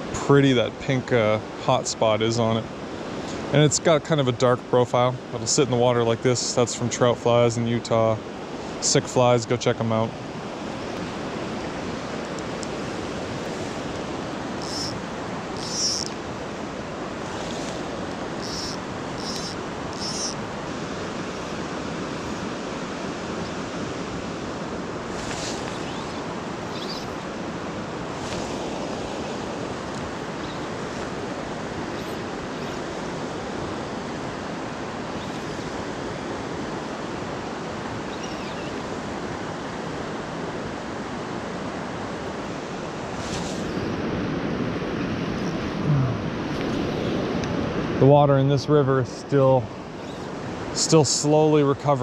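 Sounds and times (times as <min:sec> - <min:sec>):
fast river rushing: 0:00.0 - 0:52.0.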